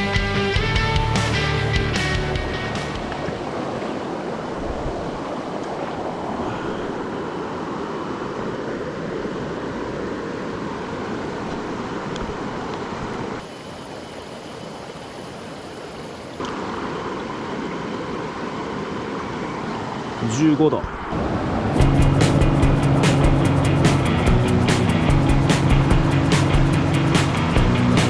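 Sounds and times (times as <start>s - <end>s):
mountain stream rushing: 1.3s - 28.0s.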